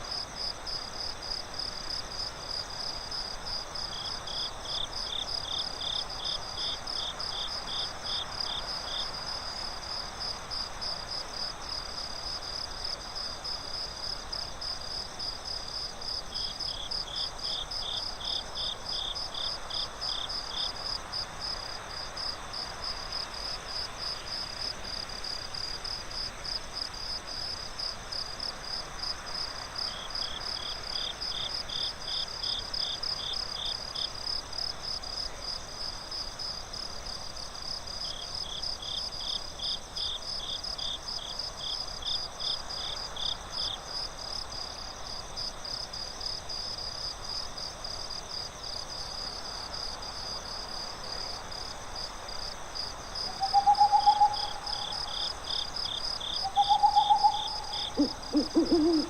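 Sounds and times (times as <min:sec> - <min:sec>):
high cricket chirping: 0:00.0 - 0:59.0
lower-pitched cricket chirping: 0:00.0 - 0:59.0
soft steady hiss: 0:00.0 - 0:59.0.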